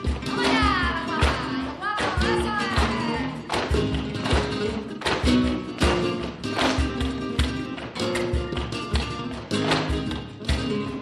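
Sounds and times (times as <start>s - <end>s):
flamenco guitar: 0.0s - 11.0s
sharp percussive strikes: 0.0s - 11.0s.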